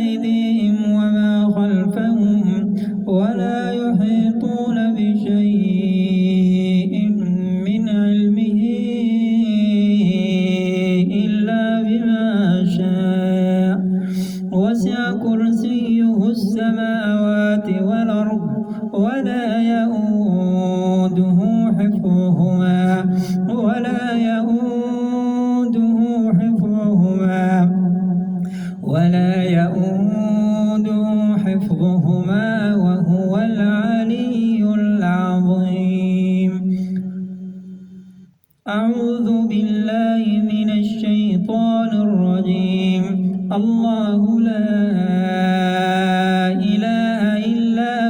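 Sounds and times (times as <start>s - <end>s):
man chanting melodic recitation: 0.0s - 37.9s, 38.6s - 48.0s.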